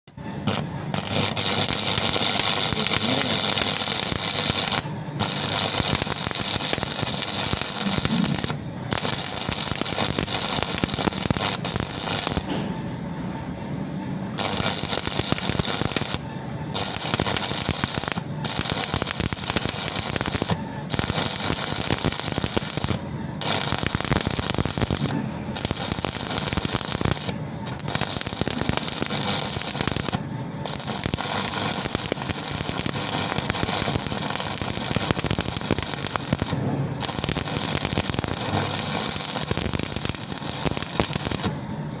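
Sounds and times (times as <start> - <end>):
welding arc crackling: 0.1 - 41.6.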